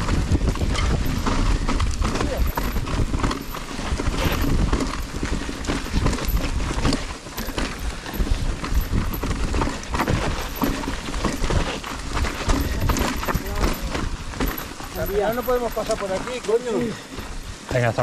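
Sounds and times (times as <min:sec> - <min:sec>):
wind rumble on microphone: 0:00.0 - 0:16.0
bike frame and chain rattling: 0:00.0 - 0:18.0.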